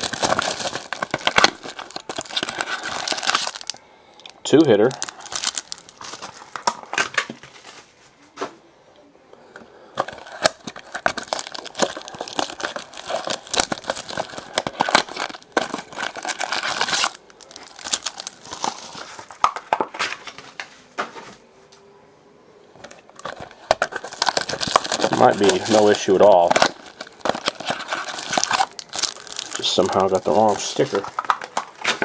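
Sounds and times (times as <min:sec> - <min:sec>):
wrappers crinkling and tearing: 0:00.0 - 0:03.8, 0:04.4 - 0:07.9, 0:10.0 - 0:20.4, 0:22.9 - 0:32.0.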